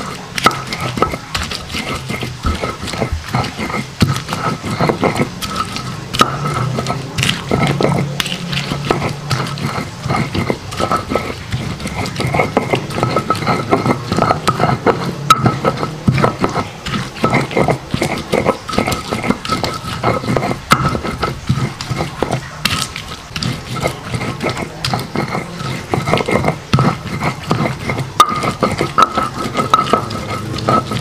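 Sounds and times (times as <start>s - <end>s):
stone grinding against stone: 0.0s - 31.0s.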